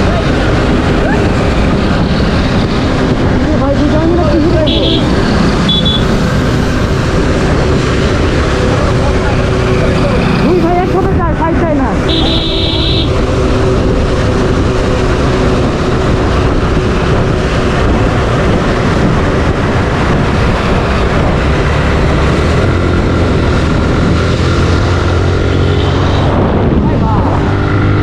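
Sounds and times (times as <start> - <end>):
motorcycle engine cruising: 0.0 - 28.0
wind rush on microphone: 0.0 - 28.0.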